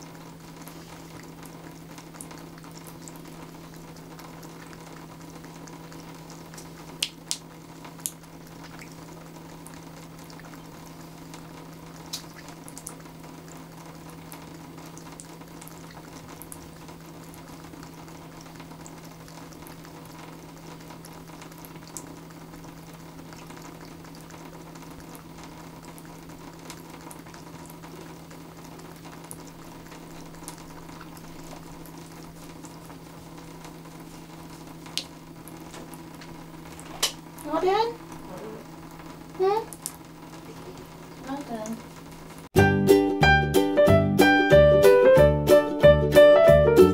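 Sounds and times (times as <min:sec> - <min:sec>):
water running into bathtub: 0:00.0 - 0:42.6.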